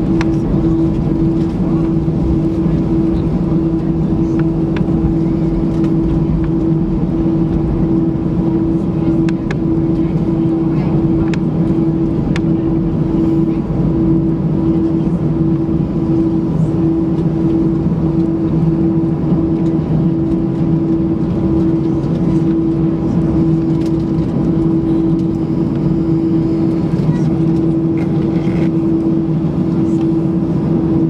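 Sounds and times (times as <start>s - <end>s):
jet engine cabin drone: 0.0s - 31.0s.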